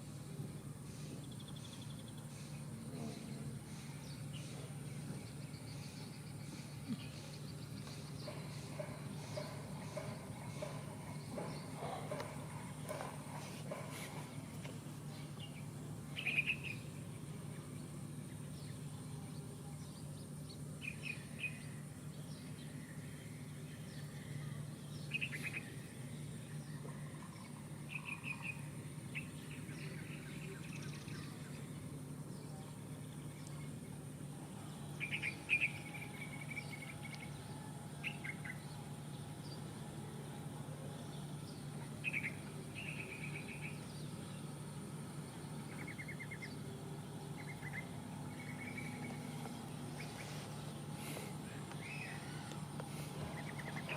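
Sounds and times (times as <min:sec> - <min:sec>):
steady low hum: 0:00.0 - 0:53.9
bird chirping: 0:00.3 - 0:53.9.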